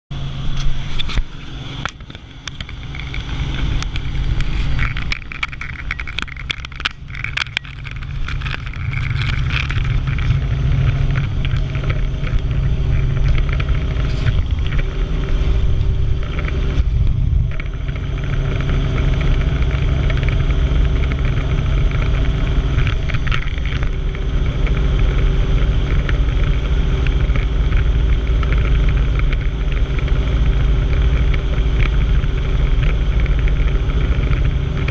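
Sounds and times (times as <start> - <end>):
helicopter engine and rotor drone: 0.1 - 34.9
knocks and rattles: 1.0 - 34.9.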